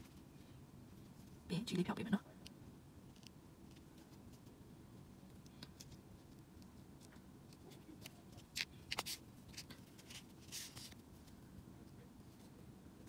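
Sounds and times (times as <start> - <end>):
faint handling sounds: 2.4 - 13.0.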